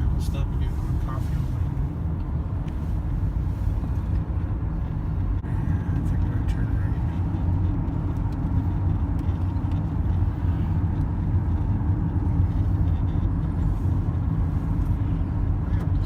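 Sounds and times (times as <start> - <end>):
car engine rumble: 0.0 - 16.0
tyre noise on road: 0.0 - 16.0.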